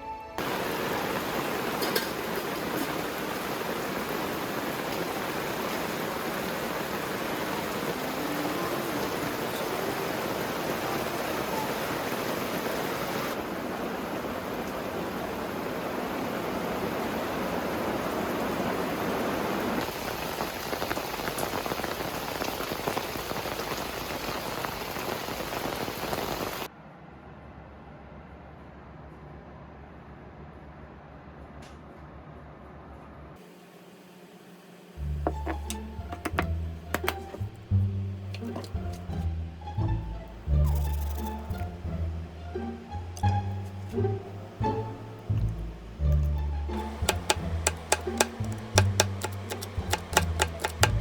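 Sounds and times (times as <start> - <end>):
steady rain falling: 0.4 - 26.7, 33.4 - 51.0.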